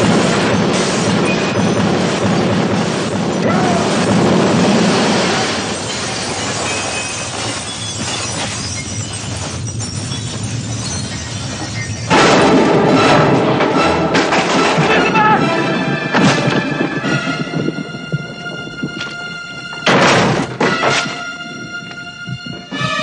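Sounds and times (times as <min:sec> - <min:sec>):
crashing and rumbling with shattering: 0:00.0 - 0:21.7.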